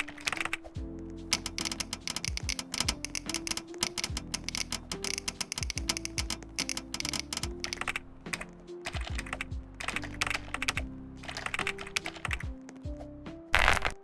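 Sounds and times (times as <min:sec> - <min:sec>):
keyboard typing: 0:00.0 - 0:00.7, 0:01.3 - 0:12.9, 0:13.6 - 0:14.0
soft background music: 0:00.0 - 0:14.0.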